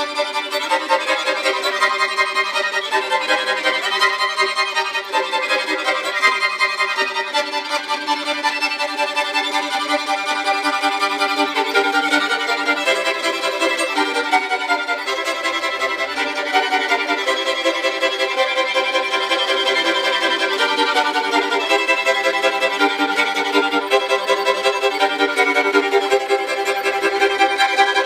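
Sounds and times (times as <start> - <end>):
violin bowed chords: 0.0 - 28.0.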